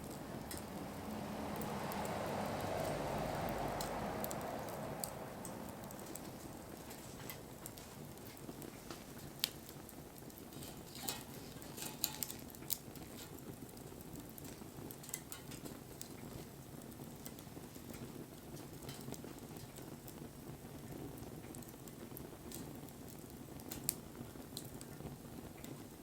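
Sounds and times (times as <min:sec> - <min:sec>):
bonfire crackling and popping: 0:00.0 - 0:26.0.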